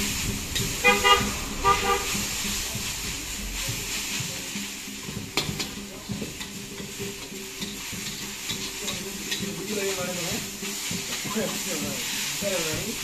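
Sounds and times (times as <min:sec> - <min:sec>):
food sizzling in a wok: 0:00.0 - 0:13.0
metal spatula scraping a pan: 0:00.0 - 0:13.0.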